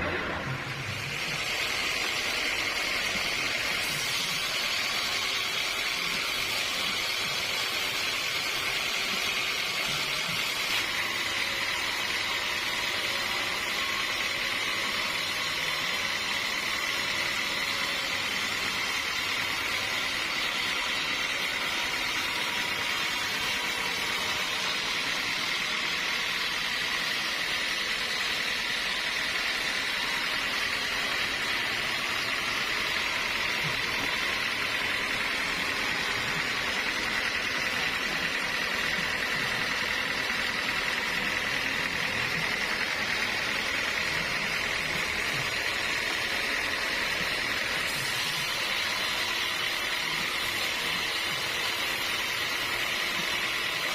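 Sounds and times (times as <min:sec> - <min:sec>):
sawmill saw whine: 0:00.0 - 0:53.9.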